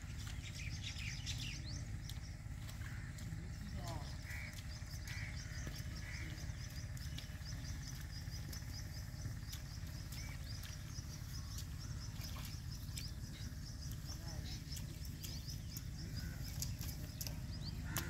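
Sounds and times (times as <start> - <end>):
lower bird calls: 0.0 - 18.0
small birds chirping: 0.0 - 18.0
steady low rumble: 0.0 - 18.0.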